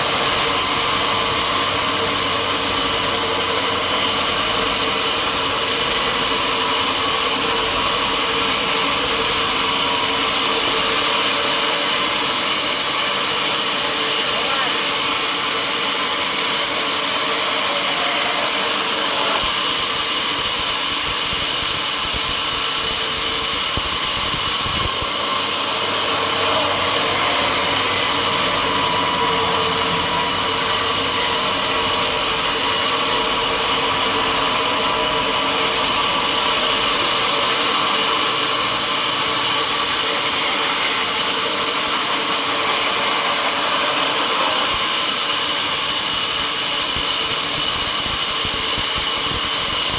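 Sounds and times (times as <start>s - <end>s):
saw cutting through wood: 0.0s - 49.9s.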